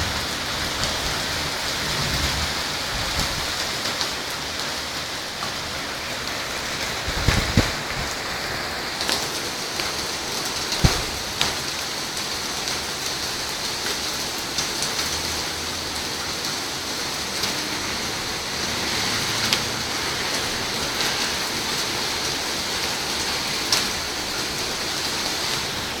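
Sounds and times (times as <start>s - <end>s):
heavy rain pouring: 0.0s - 26.0s
raindrops tapping nearby: 0.0s - 26.0s.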